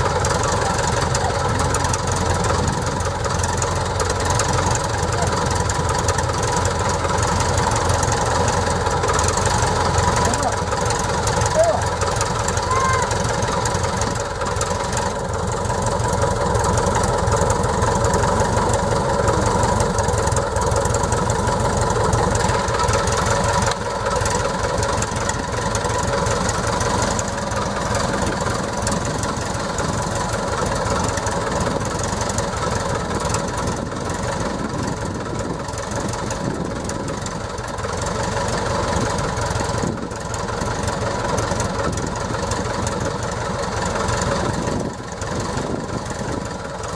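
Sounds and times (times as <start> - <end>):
small plane engine idling: 0.0 - 46.9.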